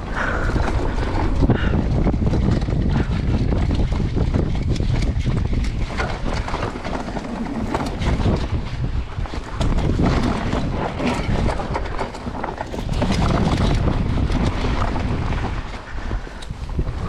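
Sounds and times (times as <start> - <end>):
bike rattling over rocks: 0.0 - 17.0
tyre rumble: 0.0 - 17.0
wind buffeting microphone: 0.0 - 17.0.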